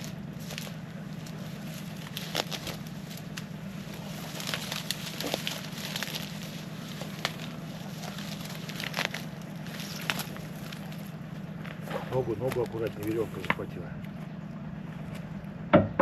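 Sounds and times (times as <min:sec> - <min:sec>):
rope and gear being handled: 0:00.0 - 0:13.6
steady low hum: 0:00.0 - 0:16.0.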